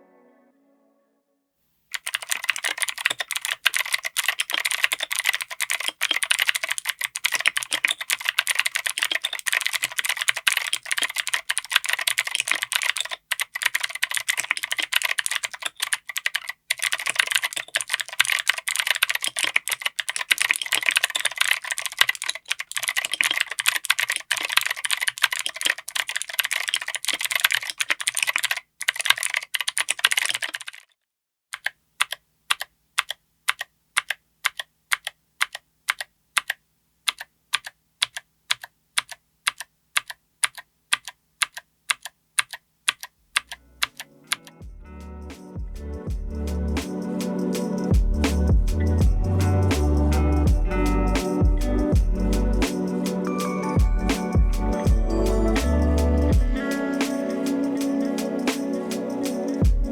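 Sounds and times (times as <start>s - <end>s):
fast typing on clicky keyboard: 1.9s - 31.0s, 31.6s - 44.5s, 46.8s - 59.9s.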